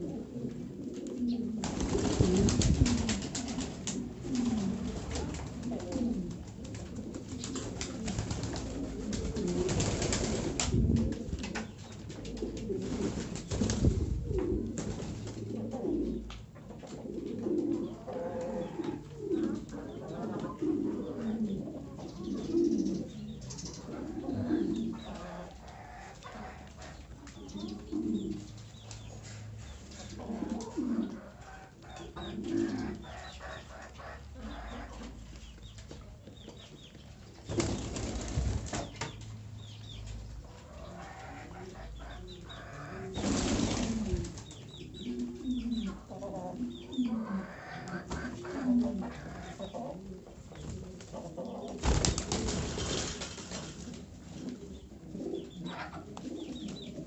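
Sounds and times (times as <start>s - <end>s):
pigeons cooing: 0.0s - 35.3s, 40.4s - 57.0s.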